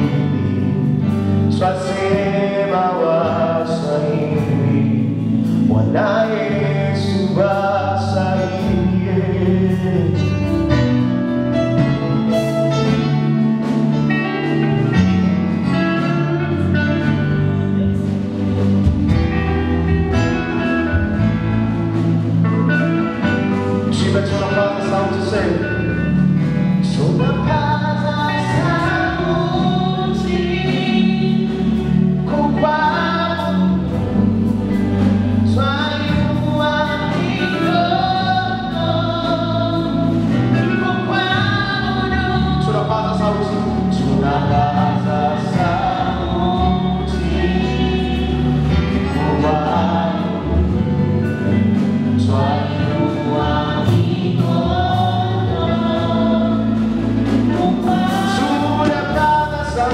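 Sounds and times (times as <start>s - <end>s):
backing band with bass: 0.0s - 59.9s
choir singing gospel song: 0.0s - 59.9s.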